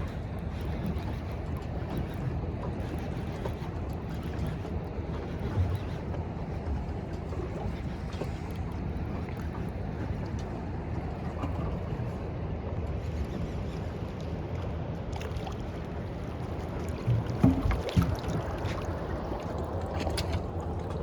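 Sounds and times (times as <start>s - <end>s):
boat engine running: 0.0s - 21.0s
water noise: 0.0s - 21.0s
wind: 0.0s - 21.0s.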